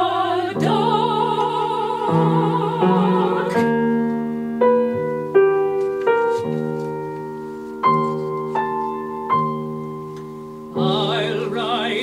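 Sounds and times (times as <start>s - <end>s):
slow soft piano: 0.0s - 12.0s.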